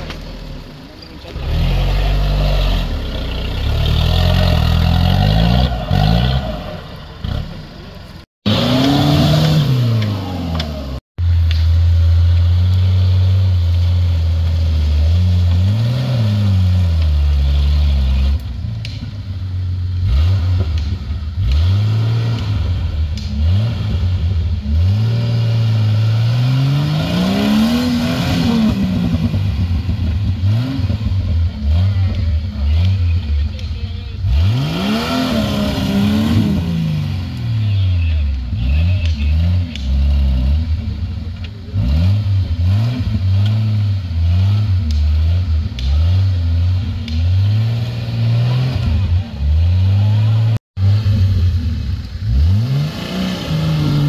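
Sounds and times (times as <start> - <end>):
off-road engines revving: 0.0 - 54.0.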